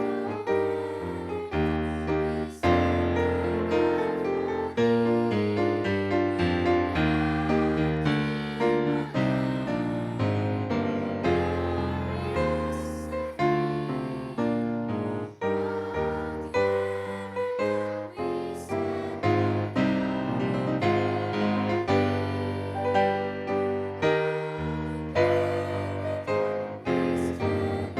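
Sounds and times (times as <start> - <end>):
piano chords: 0.0 - 27.9.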